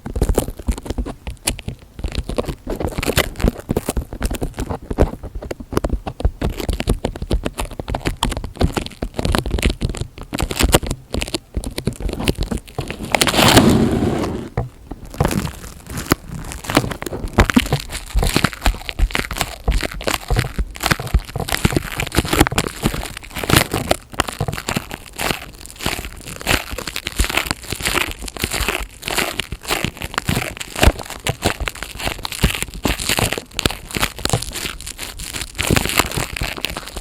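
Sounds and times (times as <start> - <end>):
crinkly material crackling: 0.0 - 37.0.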